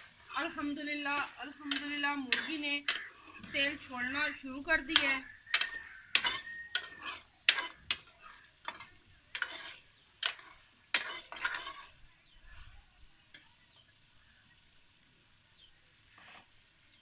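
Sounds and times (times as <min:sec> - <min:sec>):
spatula scraping a pan: 0:00.0 - 0:13.4, 0:16.0 - 0:17.0.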